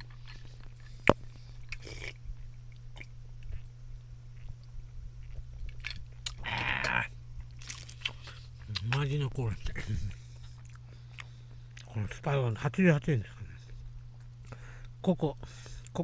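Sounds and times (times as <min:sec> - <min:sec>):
person chewing food: 0:00.0 - 0:12.2, 0:13.6 - 0:15.0
steady low hum: 0:00.0 - 0:16.0.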